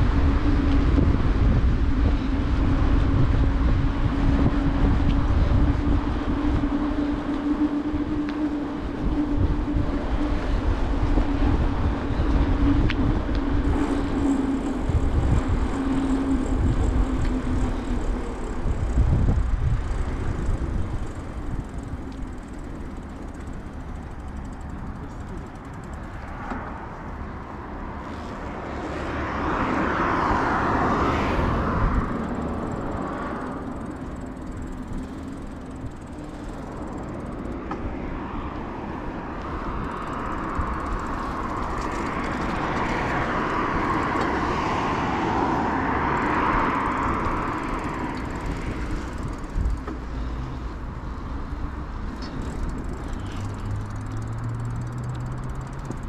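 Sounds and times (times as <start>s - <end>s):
passing traffic rush: 0.0s - 56.0s
tyres rolling on pavement: 0.0s - 56.0s
wind buffeting microphone: 0.0s - 56.0s.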